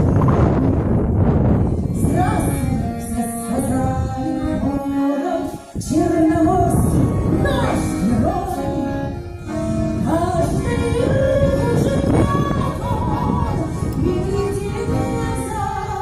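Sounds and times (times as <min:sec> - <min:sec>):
musical accompaniment: 0:00.0 - 0:16.0
wind rumbling on microphone: 0:00.0 - 0:16.0
woman singing: 0:02.0 - 0:09.0, 0:10.0 - 0:16.0.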